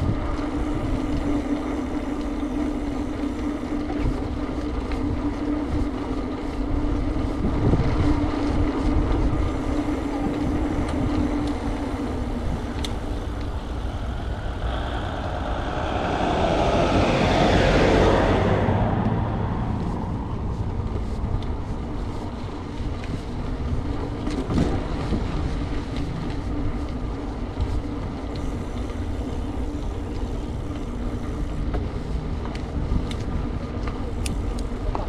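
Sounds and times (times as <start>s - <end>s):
bicycle rolling noise: 0.0s - 35.0s
wind rumble on microphone: 0.0s - 35.0s.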